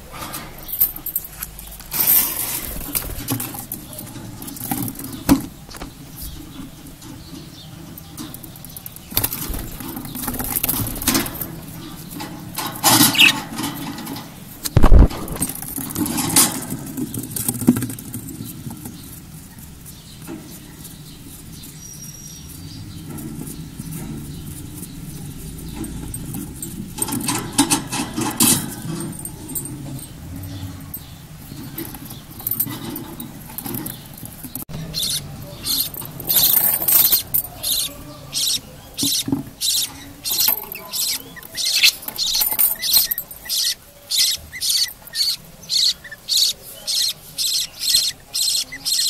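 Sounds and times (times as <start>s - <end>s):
rustling and scraping on wood: 0.0s - 45.6s.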